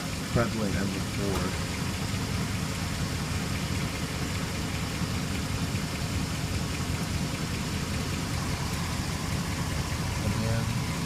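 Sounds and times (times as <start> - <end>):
car engine idling: 0.0 - 11.0
faint noise under engine: 0.0 - 11.0.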